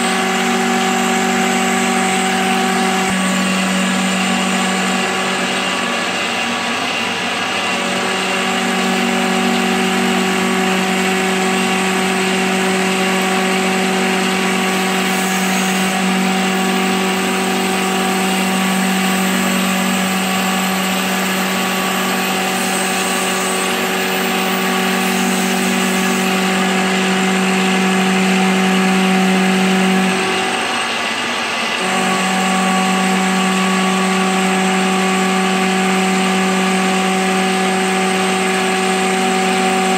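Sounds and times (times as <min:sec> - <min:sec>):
milling machine cutting hum: 0:00.0 - 0:39.9.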